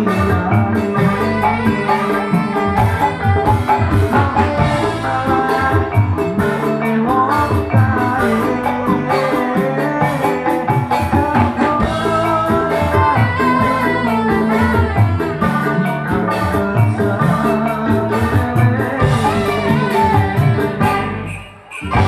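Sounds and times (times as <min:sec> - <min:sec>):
live band playing amplified music: 0:00.0 - 0:22.0.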